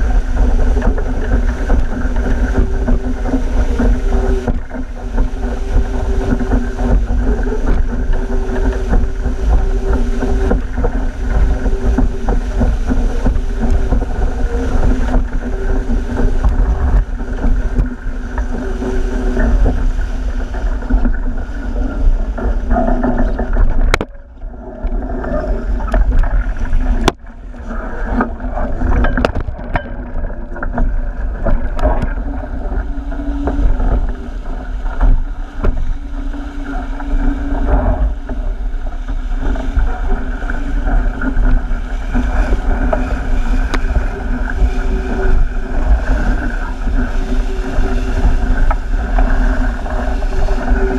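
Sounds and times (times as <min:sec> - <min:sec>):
water rushing along a hull: 0:00.0 - 0:50.9
wind buffeting microphone: 0:00.0 - 0:50.9.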